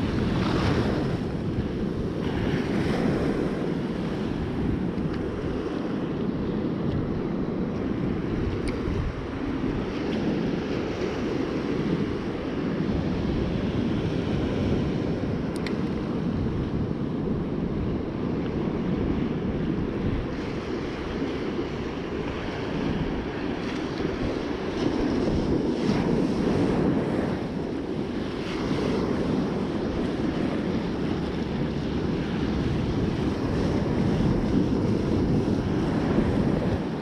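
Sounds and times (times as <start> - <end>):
surf breaking on beach: 0.0 - 37.0
wind buffeting microphone: 0.0 - 37.0.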